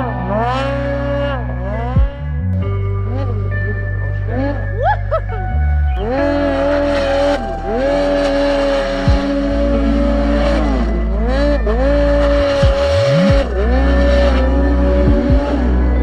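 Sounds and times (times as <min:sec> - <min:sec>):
snowmobile engine revving: 0:00.0 - 0:16.0.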